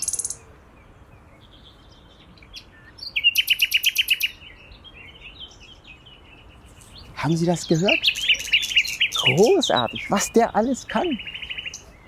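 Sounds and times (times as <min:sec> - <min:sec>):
nightingale singing: 0:00.0 - 0:12.0.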